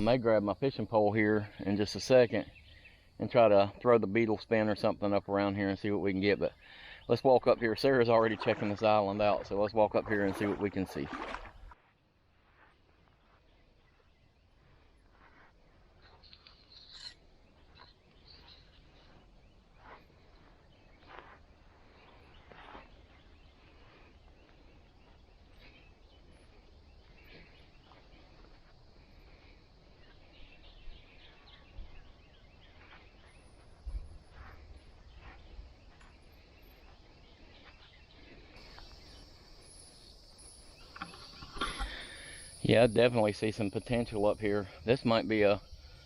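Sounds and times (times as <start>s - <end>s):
distant bird calls: 0.0s - 12.1s, 12.7s - 46.0s.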